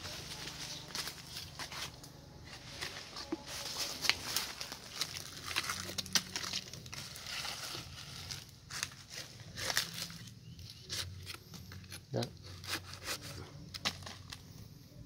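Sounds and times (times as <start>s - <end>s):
rustling leaves: 0.0s - 14.5s.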